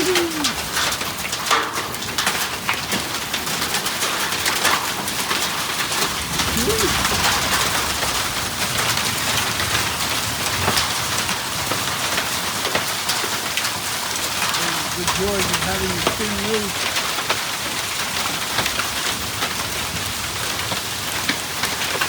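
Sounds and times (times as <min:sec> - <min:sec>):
heavy rain on thin roof: 0:00.0 - 0:22.0.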